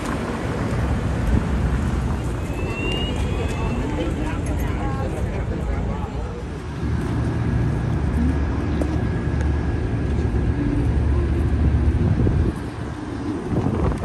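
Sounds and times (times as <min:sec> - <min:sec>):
traffic rumble: 0:00.0 - 0:14.0
wind: 0:00.0 - 0:14.0.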